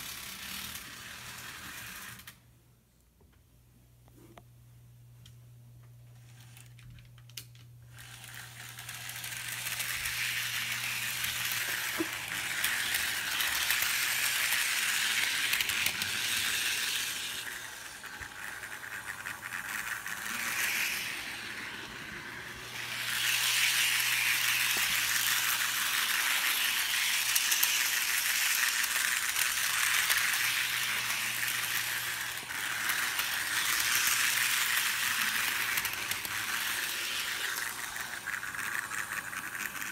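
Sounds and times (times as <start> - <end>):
model train rattling whir: 0.0 - 2.4, 6.2 - 39.9.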